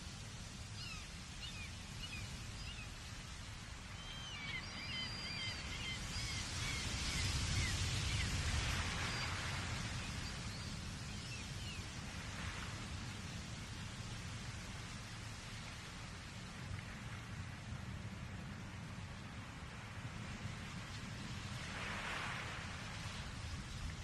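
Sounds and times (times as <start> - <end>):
distant ocean surf: 0.0 - 24.0.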